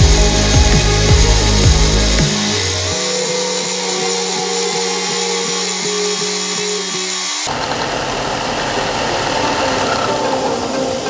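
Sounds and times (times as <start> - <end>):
belt sander grinding wood: 0.0 - 11.0.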